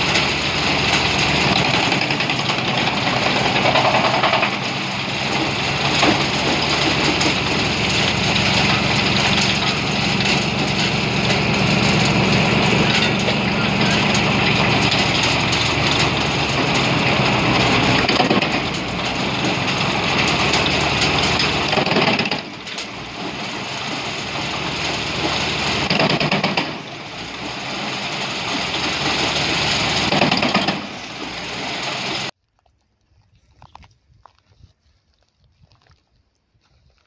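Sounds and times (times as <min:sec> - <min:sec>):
tractor engine working: 0:00.0 - 0:32.4
wood chipper chipping branches: 0:00.0 - 0:32.4.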